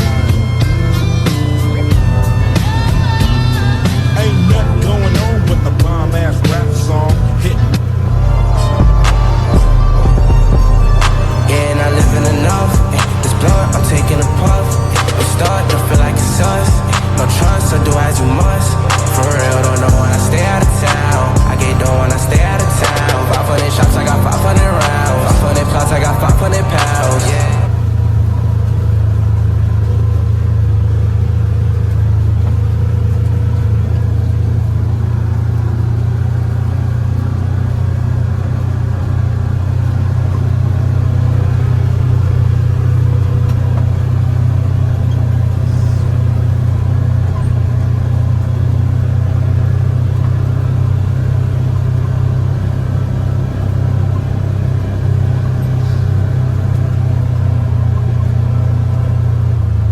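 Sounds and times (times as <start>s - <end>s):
utility vehicle engine droning: 0.0s - 59.9s.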